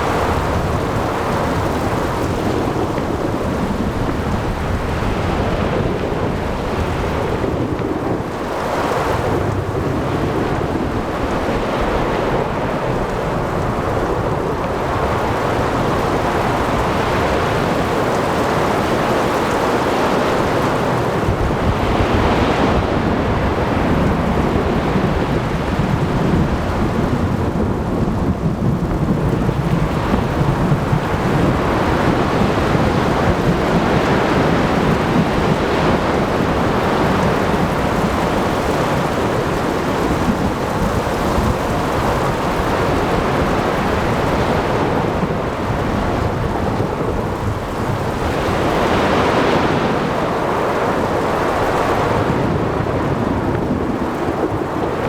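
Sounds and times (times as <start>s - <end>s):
continuous rain: 0.0s - 55.0s.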